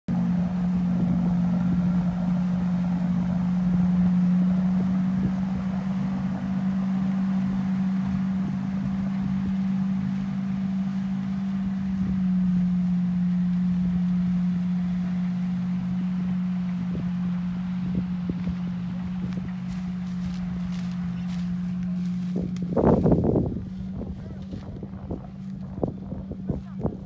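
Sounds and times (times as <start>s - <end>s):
tractor engine and seeder drone: 0.1s - 27.0s.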